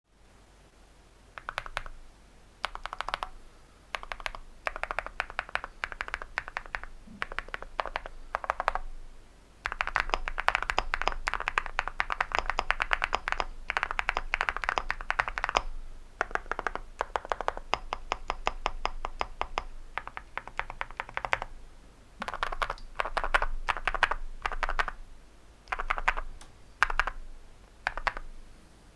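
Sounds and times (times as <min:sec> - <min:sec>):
mechanical keyboard typing: 0:01.4 - 0:02.0, 0:02.6 - 0:08.9, 0:09.6 - 0:21.5, 0:22.2 - 0:25.0, 0:25.7 - 0:27.2, 0:27.8 - 0:28.3.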